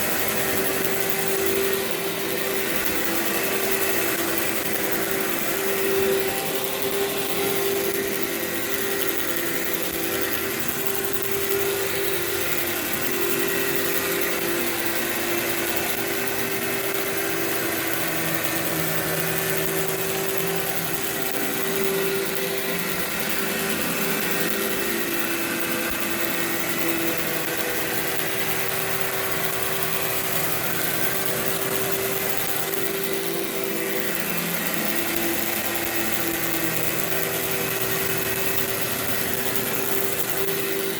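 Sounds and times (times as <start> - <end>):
vacuum cleaner on carpet: 0.0 - 40.9.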